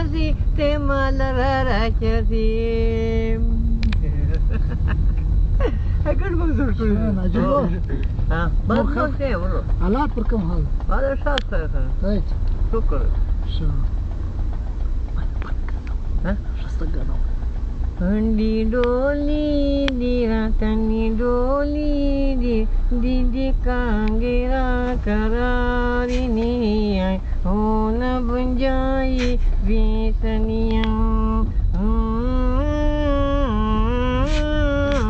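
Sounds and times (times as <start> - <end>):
car road noise rumble: 0.0 - 35.0.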